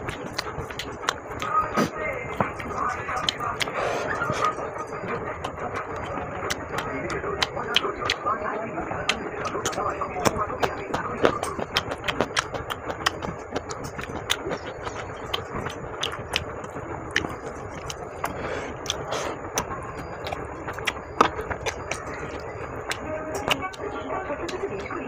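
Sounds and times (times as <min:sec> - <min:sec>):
chewing clicks and smacks: 0:00.0 - 0:08.3, 0:09.0 - 0:25.0.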